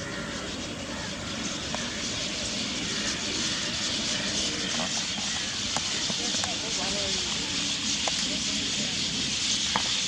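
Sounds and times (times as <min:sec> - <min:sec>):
flock of starlings chattering: 0:00.0 - 0:10.0.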